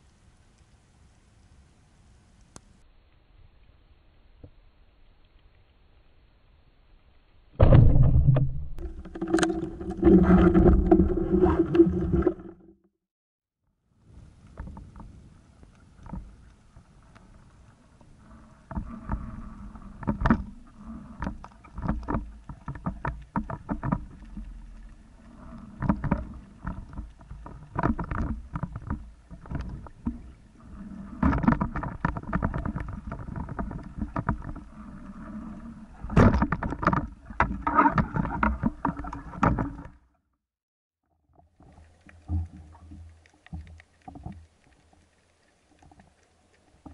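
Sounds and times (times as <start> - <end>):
steady low underwater hum: 0.0 - 12.8, 13.7 - 40.2, 41.2 - 46.9.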